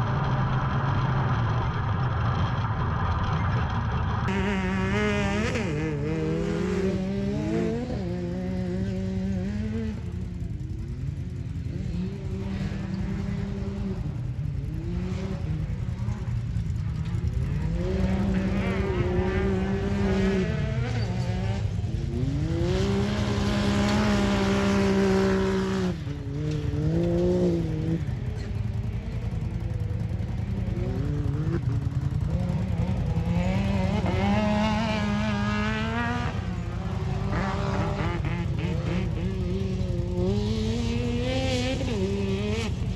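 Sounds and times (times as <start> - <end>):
utility vehicle engines racing: 0.0 - 42.9.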